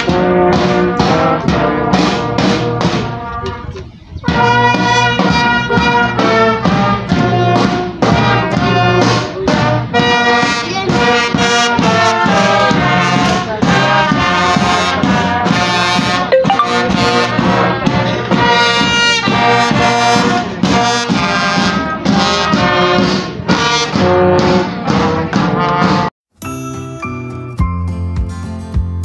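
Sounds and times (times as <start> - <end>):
brass music: 0.0 - 26.1.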